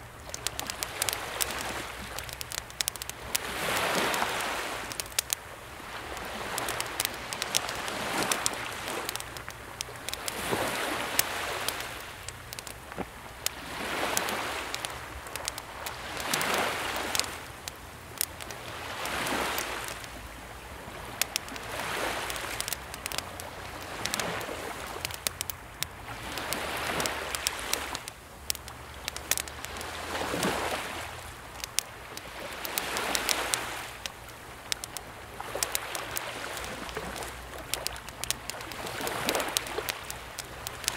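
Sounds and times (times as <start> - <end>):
campfire crackling: 0.0 - 40.9
small waves washing in: 0.0 - 40.9.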